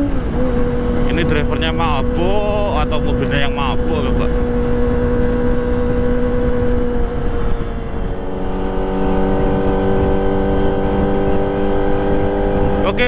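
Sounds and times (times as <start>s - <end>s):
motorcycle engine at steady revs: 0.0s - 13.0s
wind and road rumble: 0.0s - 13.0s.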